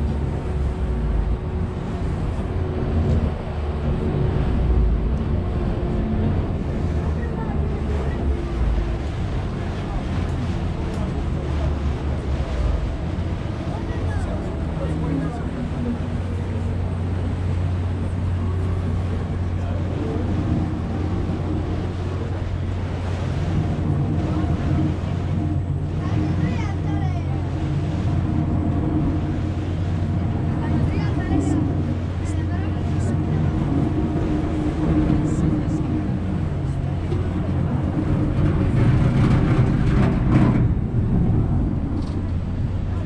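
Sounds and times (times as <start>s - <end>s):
ferry engine drone: 0.0s - 43.0s
water rushing past hull: 0.0s - 43.0s
wind: 0.0s - 43.0s.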